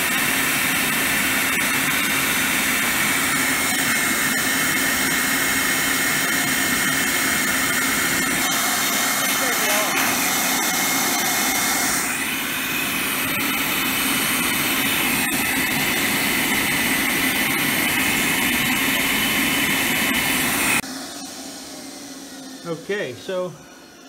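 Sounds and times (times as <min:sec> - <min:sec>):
air blower rushing: 0:00.0 - 0:24.0.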